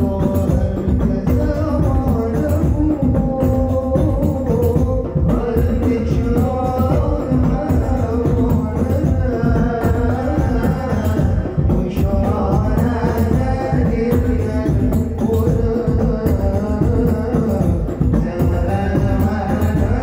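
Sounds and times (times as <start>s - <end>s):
frame drums: 0.0s - 20.0s
hand-struck bass drums: 0.0s - 20.0s
voices chanting a devotional melody: 0.0s - 20.0s.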